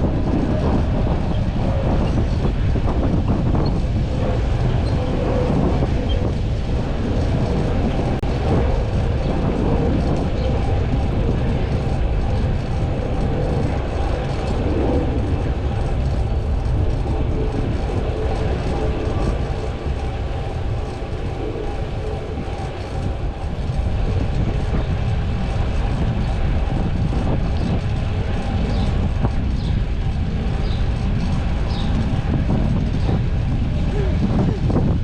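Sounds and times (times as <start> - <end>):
rumbling vehicle noise: 0.0 - 35.0.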